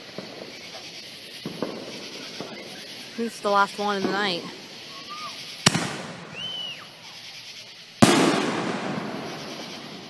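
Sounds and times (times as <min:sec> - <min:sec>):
firework burst echoing: 0:00.0 - 0:10.0
firework launch crack: 0:00.0 - 0:10.0.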